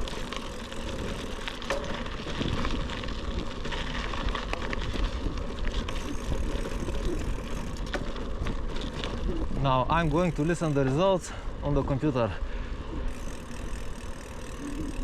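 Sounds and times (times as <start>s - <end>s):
bike clicks and rattles: 0.0s - 15.0s
wind rumble: 0.0s - 15.0s.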